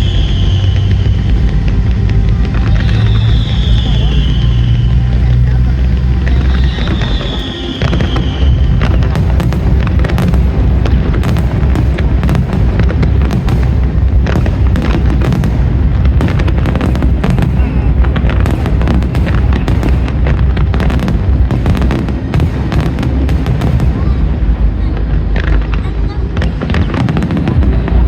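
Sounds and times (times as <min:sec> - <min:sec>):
fireworks bangs and crackling: 0:00.0 - 0:28.0
low rumble of shell bursts: 0:00.0 - 0:28.0.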